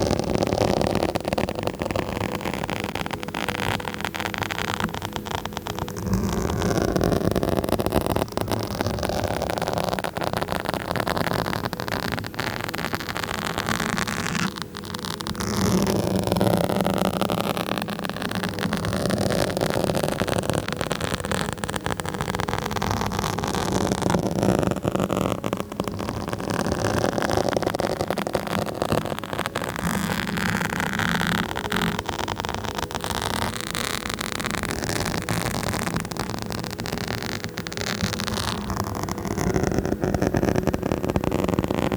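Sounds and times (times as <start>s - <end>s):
fingers scratching on microphone: 0.0s - 41.9s.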